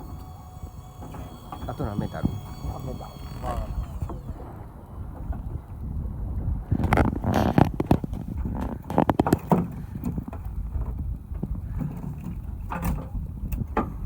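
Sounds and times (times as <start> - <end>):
low rumble of wind and water: 0.0 - 14.0.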